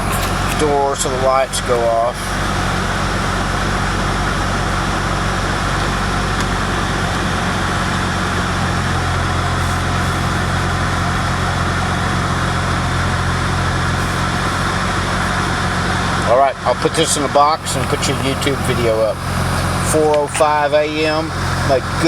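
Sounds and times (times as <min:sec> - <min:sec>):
car blower fan rushing: 0:00.0 - 0:22.0
low steady hum: 0:00.0 - 0:22.0.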